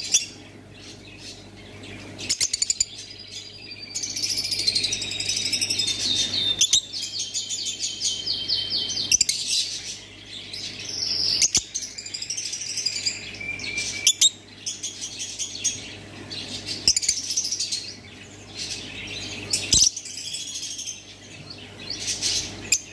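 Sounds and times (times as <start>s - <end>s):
bird chirping and trilling: 0.0s - 22.9s.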